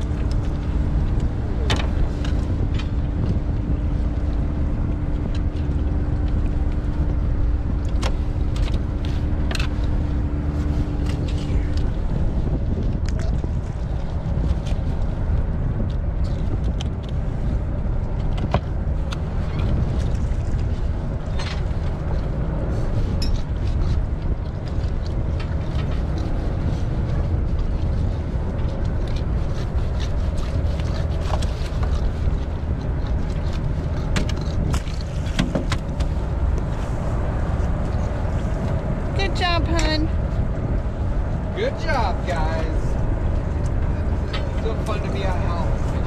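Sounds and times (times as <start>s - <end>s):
boat engine rumble: 0.0s - 46.0s.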